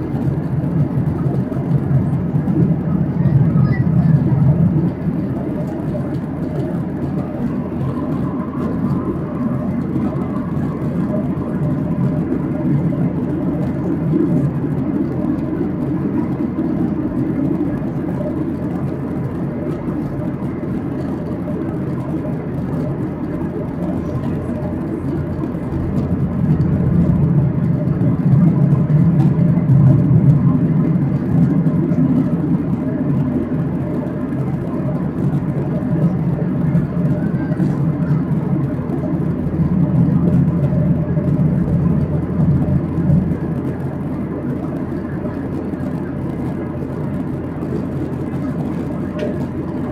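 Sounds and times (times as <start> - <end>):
airflow over fuselage: 0.0 - 49.9
jet engines rumbling: 0.0 - 49.9.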